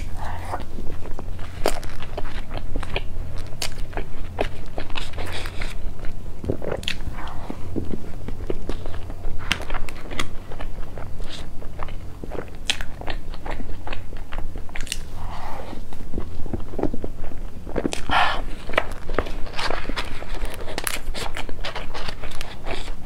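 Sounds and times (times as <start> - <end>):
low steady hum: 0.0 - 23.0
person chewing with mouth smacks: 0.0 - 23.0.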